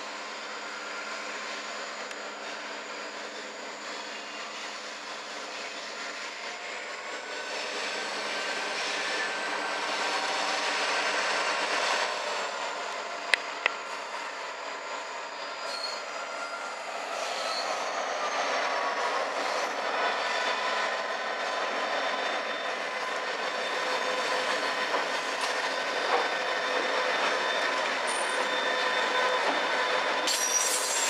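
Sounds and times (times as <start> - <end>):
diesel locomotives working under load: 0.0 - 31.0
steel wheels squealing on rails: 0.0 - 31.0.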